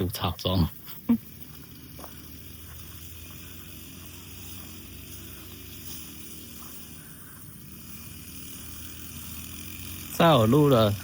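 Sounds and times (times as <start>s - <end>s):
faint lawn mower engine hum: 0.0s - 11.0s.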